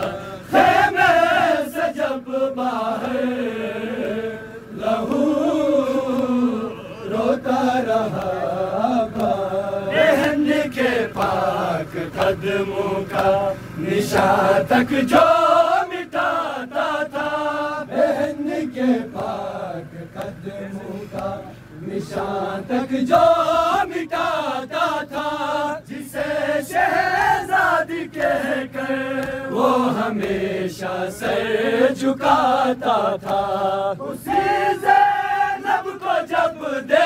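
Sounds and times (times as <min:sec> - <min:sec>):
voices chanting a lament: 0:00.0 - 0:37.0.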